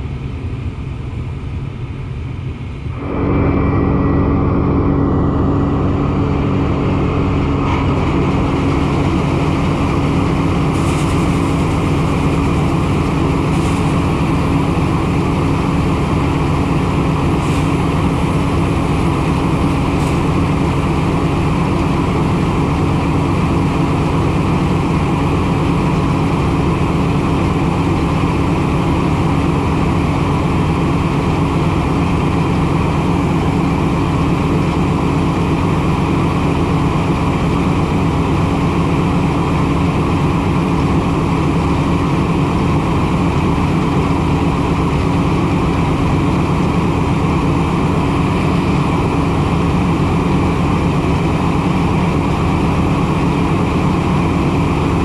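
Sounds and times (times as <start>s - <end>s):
farm machine engine droning: 0.0s - 55.0s.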